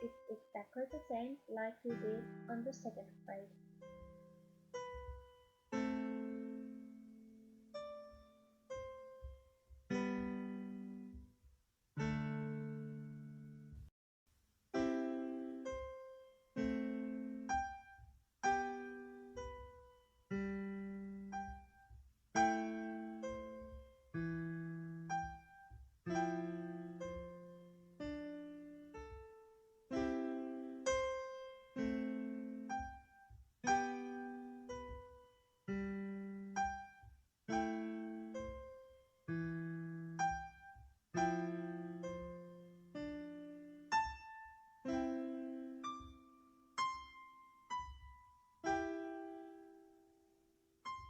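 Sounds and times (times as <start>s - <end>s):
slow solo piano piece: 3.8s - 11.3s, 14.8s - 51.0s.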